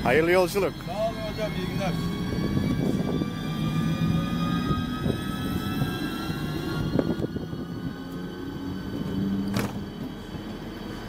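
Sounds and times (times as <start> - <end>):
electric train passing hum: 0.0 - 11.0.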